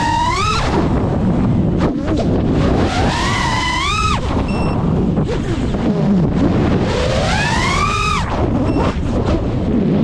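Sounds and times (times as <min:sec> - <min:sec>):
drone motors whining: 0:00.0 - 0:01.1, 0:01.9 - 0:09.2
wind buffeting microphone: 0:00.0 - 0:10.0.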